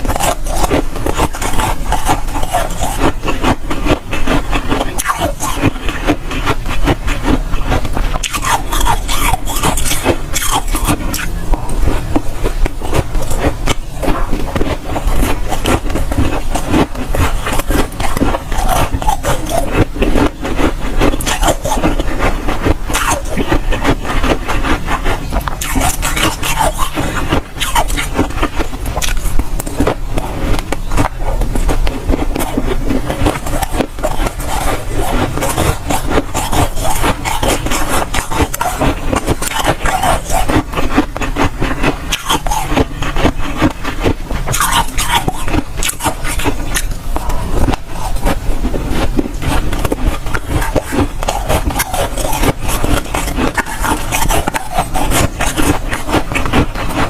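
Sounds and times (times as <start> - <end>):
frost crunching being chewed: 0.0 - 57.0.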